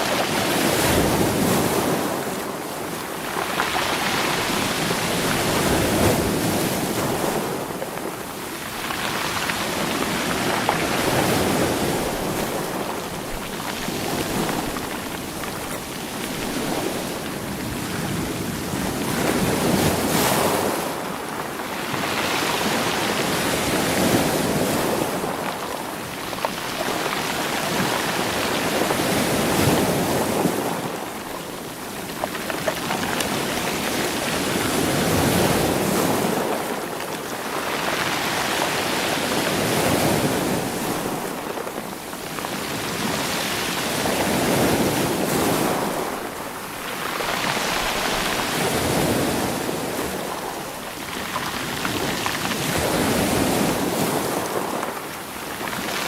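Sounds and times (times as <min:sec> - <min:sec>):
sea waves tumbling stones: 0:00.0 - 0:56.0.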